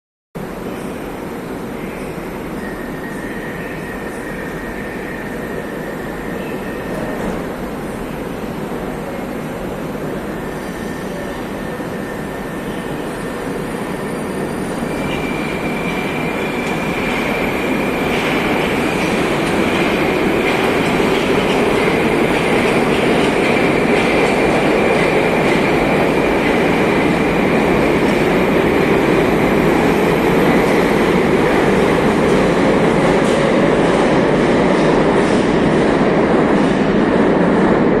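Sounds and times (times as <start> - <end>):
metro train rumble: 0.4 - 38.0.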